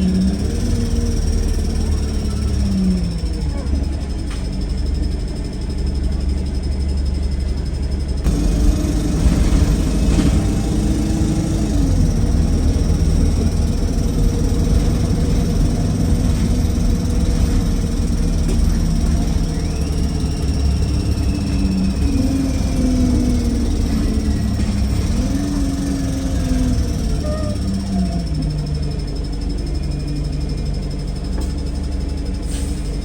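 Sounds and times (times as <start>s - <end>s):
bus engine rumble: 0.0s - 33.0s.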